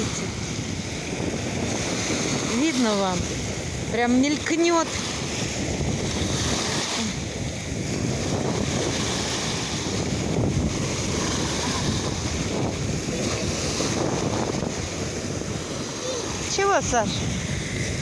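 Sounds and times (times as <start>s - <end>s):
small waves breaking on shore: 0.0s - 18.0s
wind buffeting microphone: 0.0s - 18.0s.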